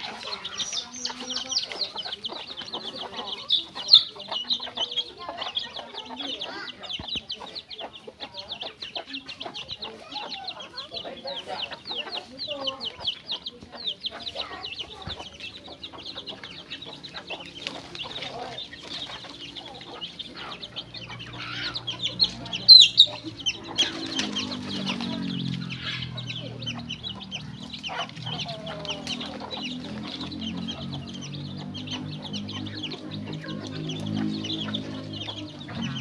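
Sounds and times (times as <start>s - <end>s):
chickens clucking: 0.0s - 36.0s
rapid high chirping: 0.0s - 36.0s.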